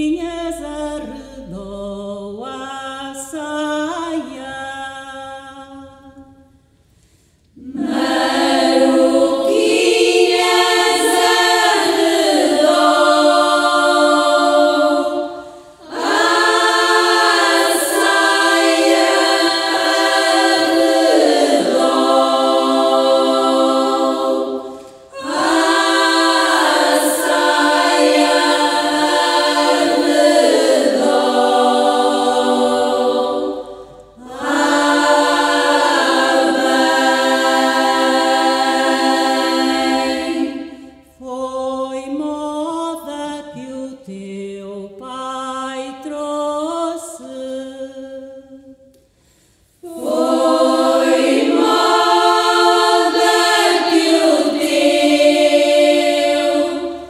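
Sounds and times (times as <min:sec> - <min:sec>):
women's choir singing a cappella: 0:00.0 - 0:06.5, 0:07.5 - 0:49.0, 0:49.7 - 0:57.0.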